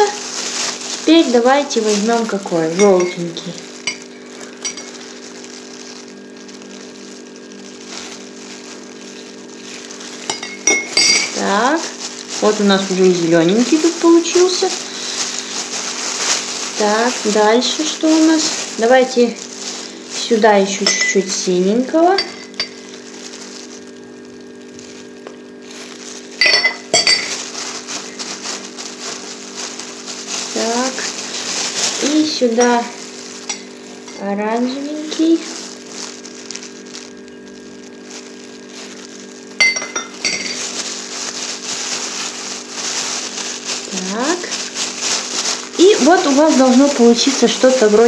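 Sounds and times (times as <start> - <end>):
low multi-tone hum: 0.0 - 48.0
plastic gloves crinkling: 0.0 - 48.0.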